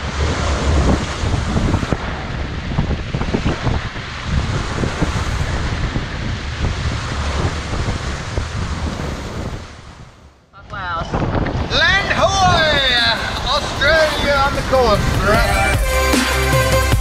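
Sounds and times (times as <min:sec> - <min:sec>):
strong wind buffeting microphone: 0:00.0 - 0:15.8
rough seas rushing: 0:00.0 - 0:17.0.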